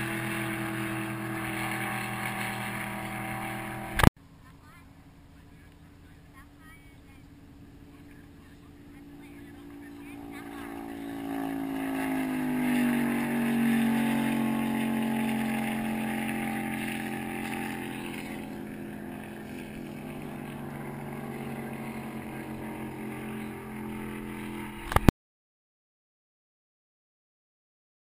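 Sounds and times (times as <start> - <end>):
faint boat engine: 0.0 - 25.1
speedboat engine passing: 0.0 - 25.1.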